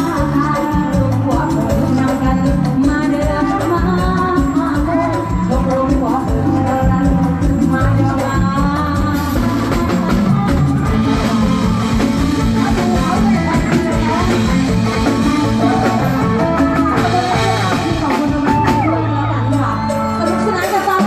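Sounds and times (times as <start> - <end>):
drums: 0.0 - 21.0
live band music over pa: 0.0 - 21.0
person singing: 0.0 - 21.0.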